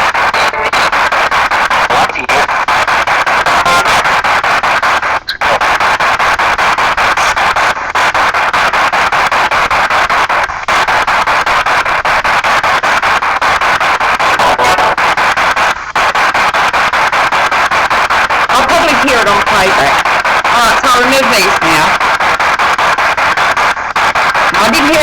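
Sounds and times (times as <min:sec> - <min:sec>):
radio static sweeping: 0:00.0 - 0:25.0.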